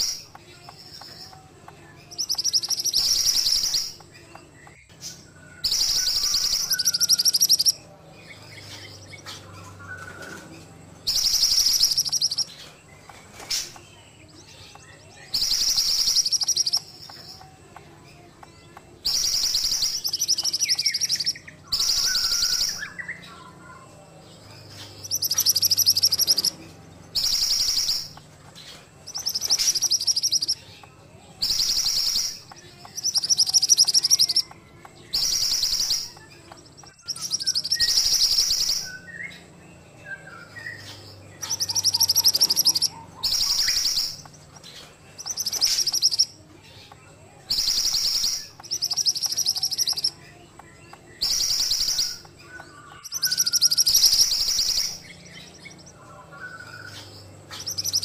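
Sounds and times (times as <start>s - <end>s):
songbird trilling: 0.0s - 23.8s, 24.4s - 58.0s.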